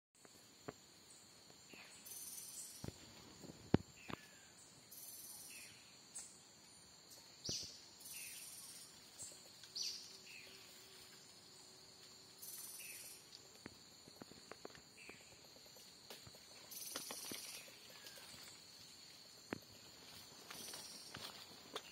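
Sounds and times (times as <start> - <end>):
insect drone: 0.2 - 21.9.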